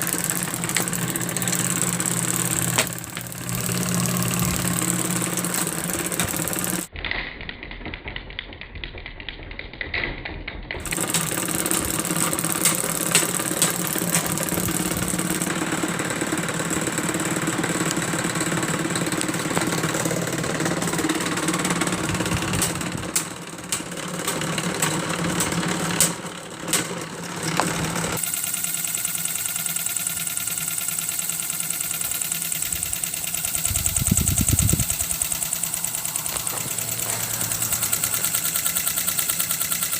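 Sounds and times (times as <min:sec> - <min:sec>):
electric fan motor hum: 0:00.0 - 0:06.9, 0:10.8 - 0:39.9
rapid clicking and rattling: 0:00.0 - 0:39.9.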